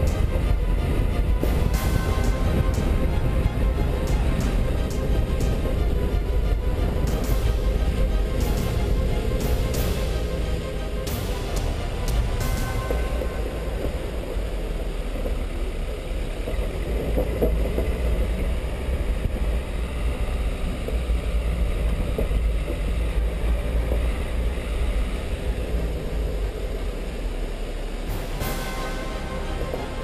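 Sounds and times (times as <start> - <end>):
engine and road rumble: 0.0 - 30.0.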